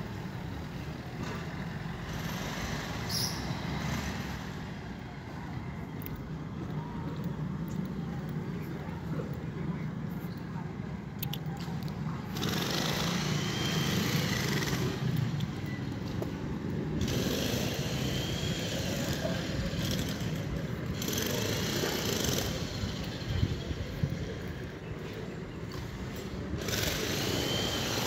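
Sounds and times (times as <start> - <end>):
traffic engine rumble: 0.0 - 28.0
vehicles passing: 0.0 - 28.0.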